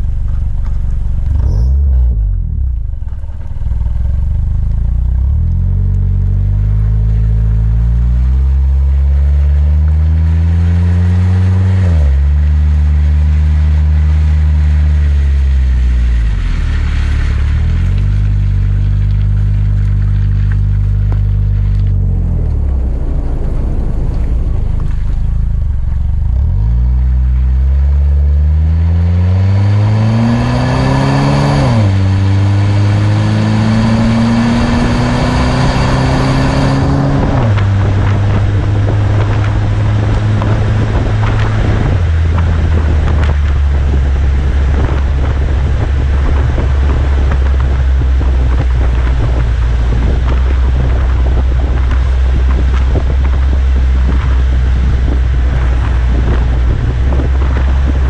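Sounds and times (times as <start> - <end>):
car engine accelerating: 0.0 - 58.0
tyres on wet road: 0.0 - 58.0
wind noise: 0.0 - 58.0.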